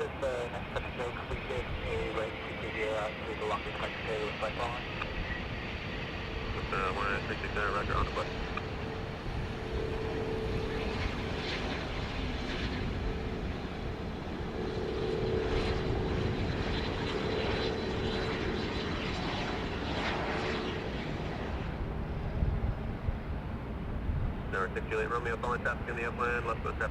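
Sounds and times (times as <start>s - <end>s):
airplane engine humming: 0.0s - 26.9s.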